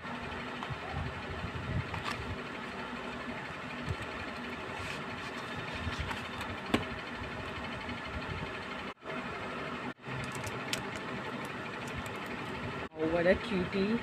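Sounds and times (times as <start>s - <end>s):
steady motor-like hum: 0.0s - 14.0s.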